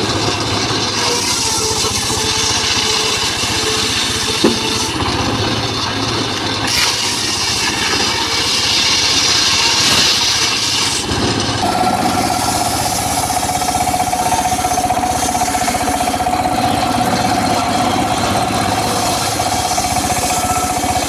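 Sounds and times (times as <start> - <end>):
circular saw hissing through wood: 0.0 - 21.0
saw engine running: 0.0 - 21.0.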